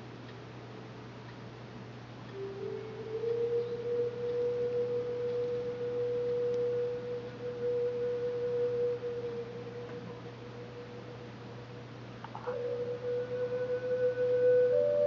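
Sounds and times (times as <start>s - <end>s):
low steady hum: 0.0s - 15.0s
steady pure tone: 0.0s - 15.0s.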